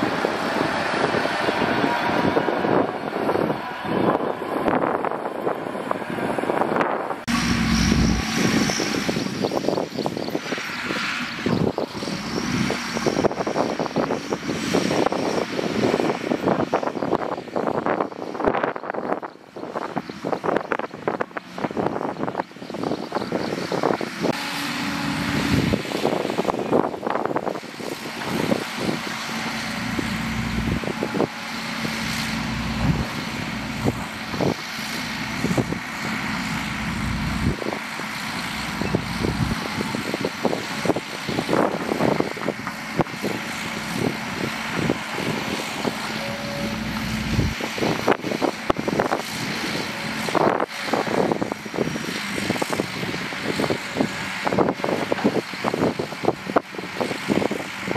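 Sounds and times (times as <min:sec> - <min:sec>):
heavy diesel engines rumbling: 0:00.0 - 0:57.9.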